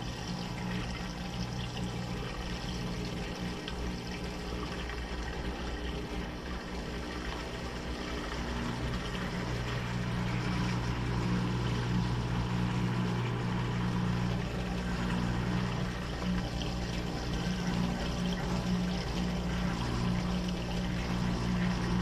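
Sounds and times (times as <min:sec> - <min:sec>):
rushing water: 0:00.0 - 0:22.0
washing machine motor hum: 0:00.0 - 0:22.0.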